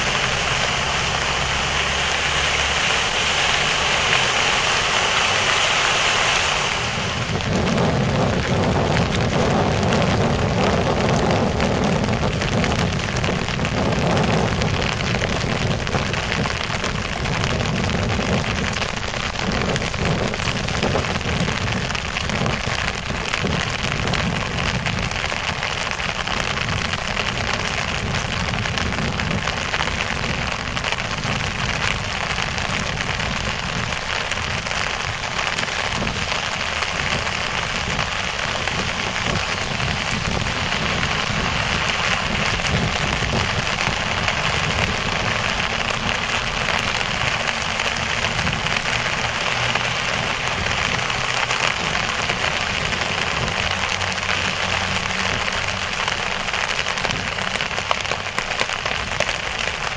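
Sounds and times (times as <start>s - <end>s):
heavy rain on plastic umbrella: 0.0s - 59.9s.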